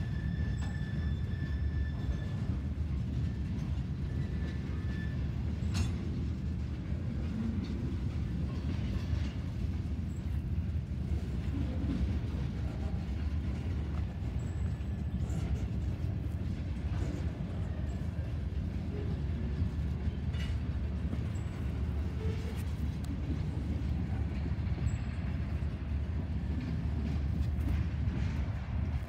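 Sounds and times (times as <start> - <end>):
freight train rumbling past: 0.0 - 29.0
sharp train clicks: 0.0 - 29.0.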